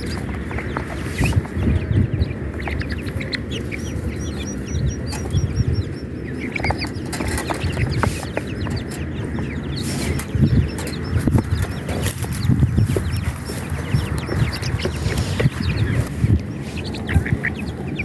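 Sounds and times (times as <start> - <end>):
chicks peeping: 0.0 - 18.0
low clucking: 0.0 - 18.0.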